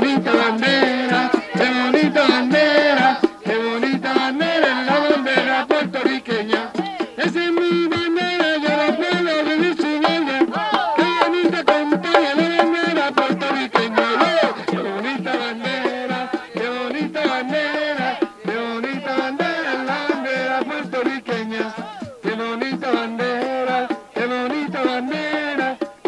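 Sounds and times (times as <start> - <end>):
frame drums beaten: 0.0 - 26.0
people singing: 0.0 - 26.0.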